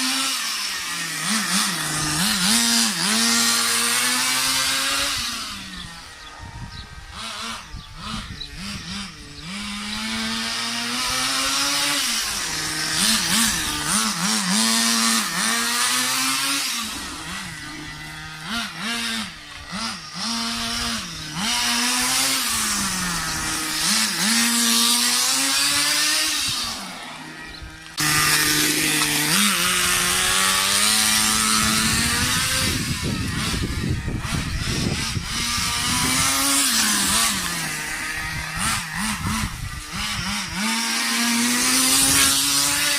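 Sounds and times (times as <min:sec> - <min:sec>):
model car engine revving: 0:00.0 - 0:42.9.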